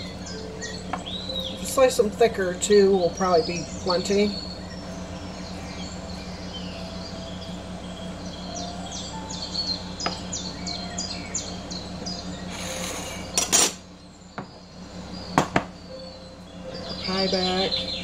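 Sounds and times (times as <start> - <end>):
low hum: 0.0 - 18.0
small bird chirping: 0.0 - 18.0.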